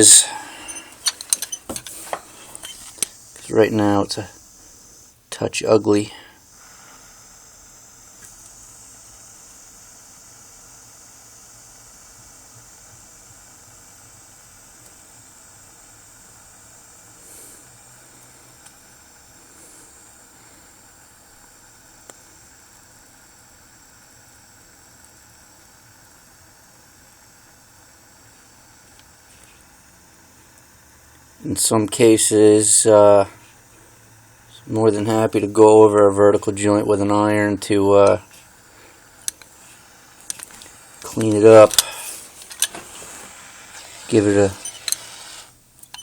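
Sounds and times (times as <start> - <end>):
soldering torch hiss: 0.0 - 46.0.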